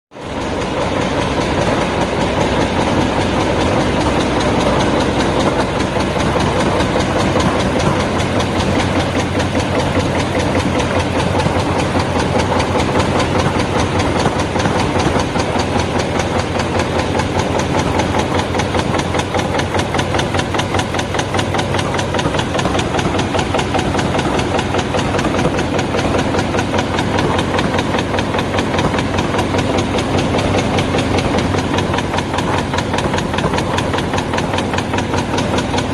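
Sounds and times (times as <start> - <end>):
cup punching machine clatter: 0.2 - 35.9.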